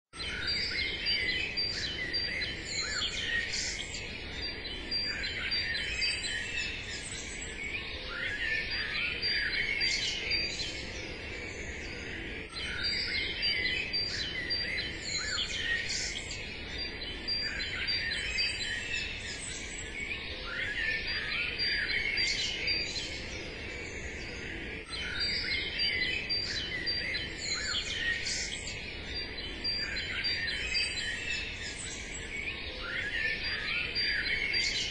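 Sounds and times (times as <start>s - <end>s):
songbirds chirping and singing: 0.2s - 34.9s.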